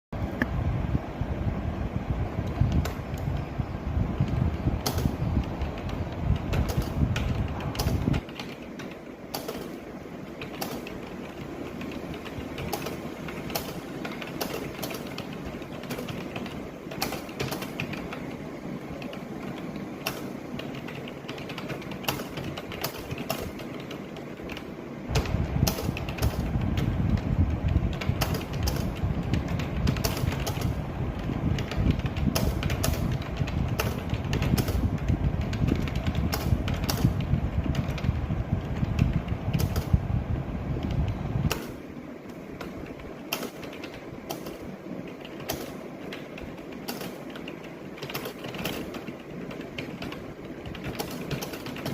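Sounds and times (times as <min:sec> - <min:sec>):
typing on computer keyboard: 0:04.2 - 0:40.0, 0:40.8 - 0:41.8, 0:42.6 - 0:51.9.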